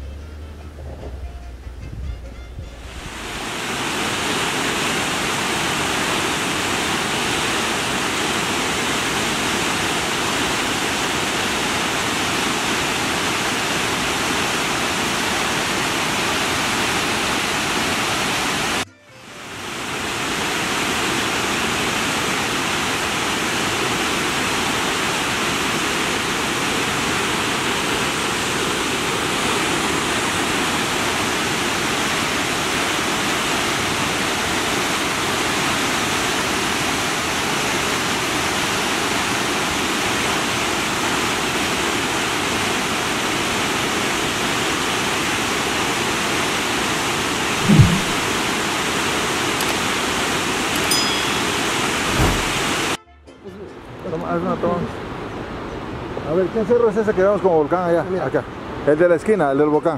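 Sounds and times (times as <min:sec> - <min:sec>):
waterfall rushing: 0:02.3 - 0:53.0.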